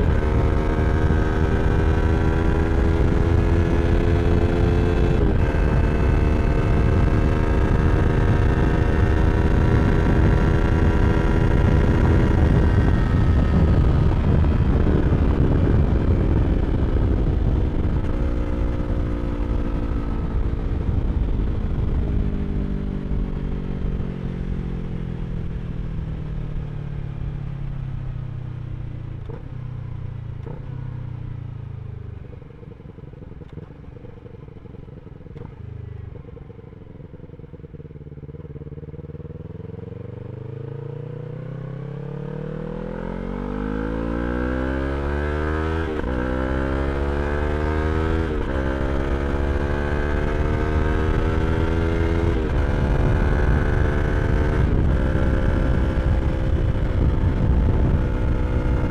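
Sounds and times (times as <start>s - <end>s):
motorcycle engine revving: 0.0s - 26.1s, 30.2s - 58.9s.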